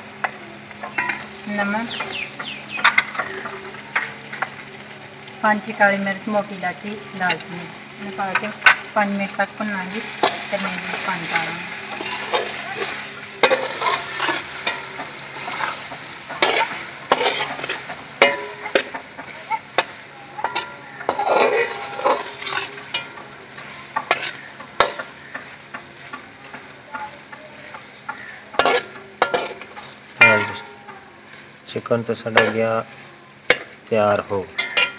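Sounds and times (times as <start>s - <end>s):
chicken sizzling in a pot: 0.0s - 34.9s
metal spatula stirring and scraping: 0.2s - 4.6s, 8.2s - 33.9s, 34.5s - 34.9s.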